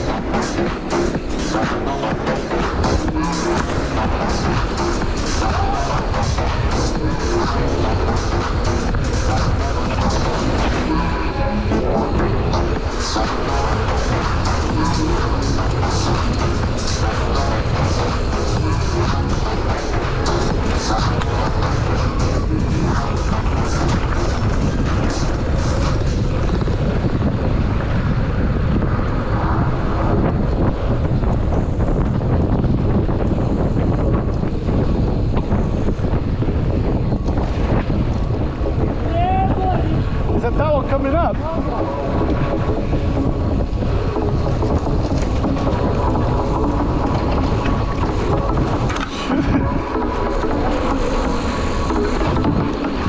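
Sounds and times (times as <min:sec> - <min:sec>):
tyres rolling on dirt: 0:00.0 - 0:39.2, 0:40.0 - 0:53.0
bike rattling: 0:00.0 - 0:53.0
wind buffeting microphone: 0:00.0 - 0:53.0.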